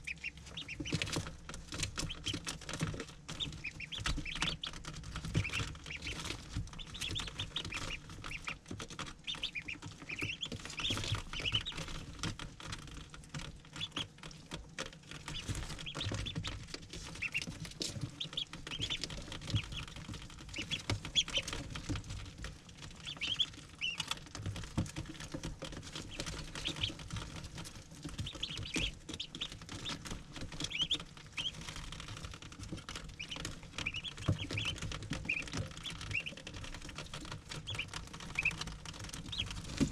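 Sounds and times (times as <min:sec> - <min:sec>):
ducklings peeping: 0:00.0 - 0:39.9
small clicks and taps: 0:00.0 - 0:39.9.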